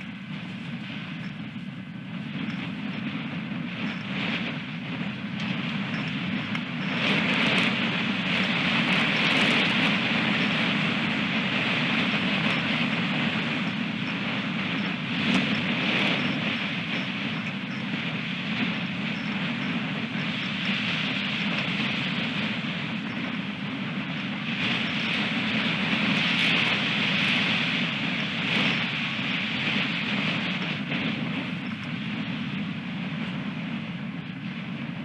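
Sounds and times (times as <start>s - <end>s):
strong wind on microphone: 0.0s - 35.0s.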